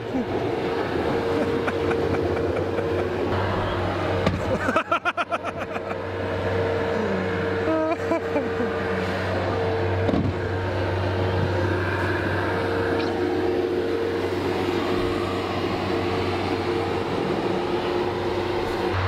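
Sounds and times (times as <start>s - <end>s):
loader engine under load: 0.0s - 19.0s.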